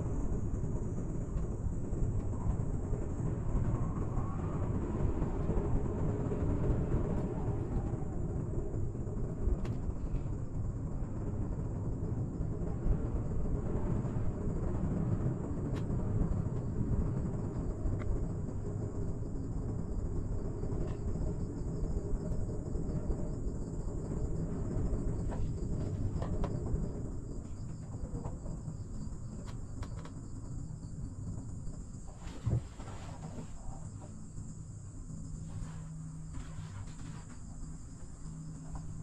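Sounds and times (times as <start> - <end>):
cable car gondola rumble: 0.0 - 39.0.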